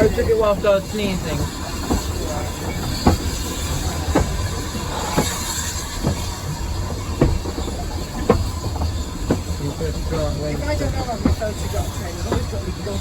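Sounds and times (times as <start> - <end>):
railway carriage rumble: 0.0 - 13.0
wheels knocking on rail joints: 0.0 - 13.0.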